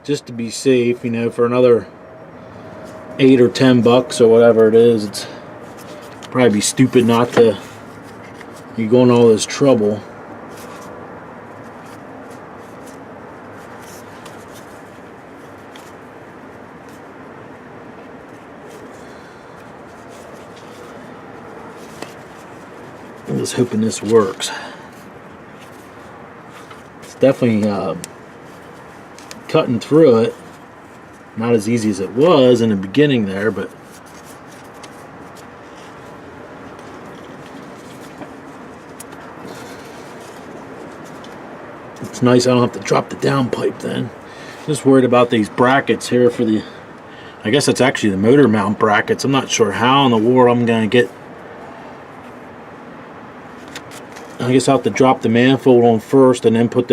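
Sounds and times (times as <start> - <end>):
steady background hum: 0.0 - 56.9.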